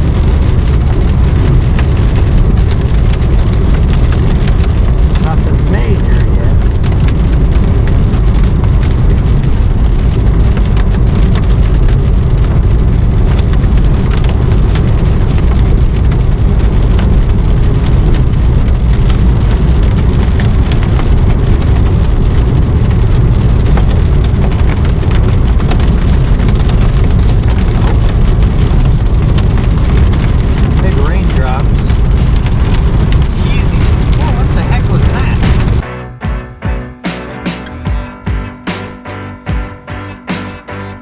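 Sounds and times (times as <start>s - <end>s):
rain and hail on vehicle roof: 0.0s - 35.8s.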